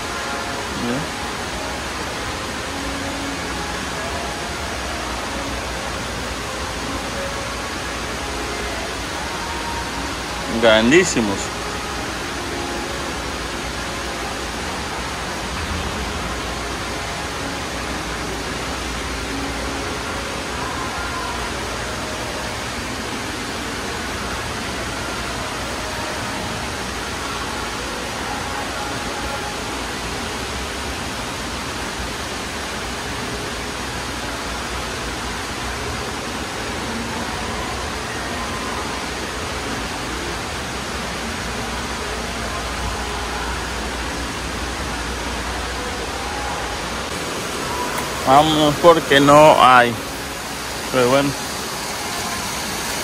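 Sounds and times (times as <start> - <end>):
steady rushing noise: 0.0 - 53.0.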